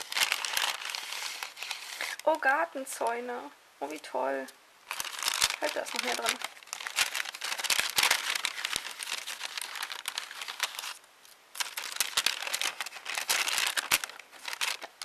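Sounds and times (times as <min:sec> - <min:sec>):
packaging rustling and crinkling: 0:00.0 - 0:02.4, 0:04.8 - 0:15.0.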